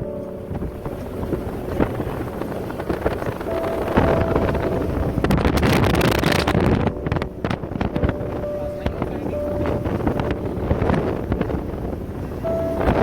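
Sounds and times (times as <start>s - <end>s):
moving car rumble: 0.0s - 13.0s
wind buffeting microphone: 0.0s - 13.0s.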